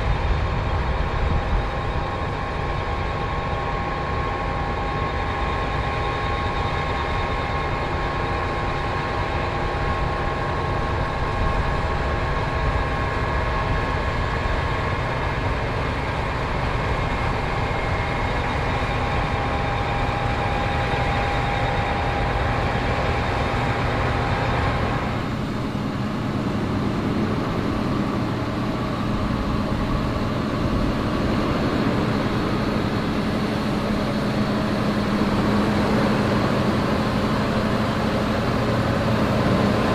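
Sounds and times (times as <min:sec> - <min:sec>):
combine harvester rumble: 0:00.0 - 0:39.9.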